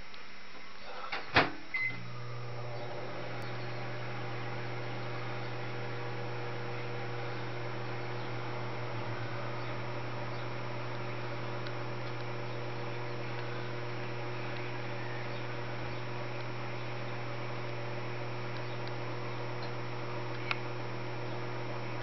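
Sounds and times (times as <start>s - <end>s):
constant hiss: 0.0s - 22.0s
low electrical hum: 0.0s - 22.0s.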